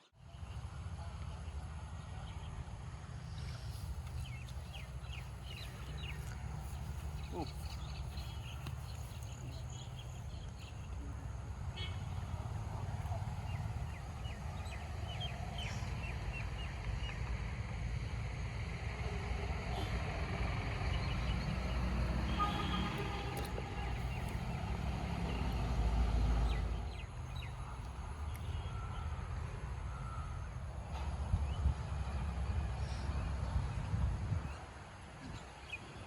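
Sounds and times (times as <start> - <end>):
steady low rumble: 0.4 - 34.6.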